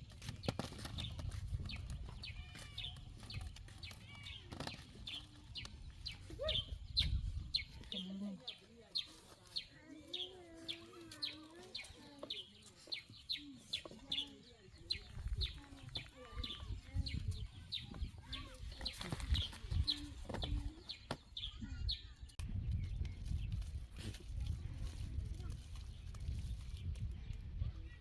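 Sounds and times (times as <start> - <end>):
bird chirping: 0.4 - 23.4.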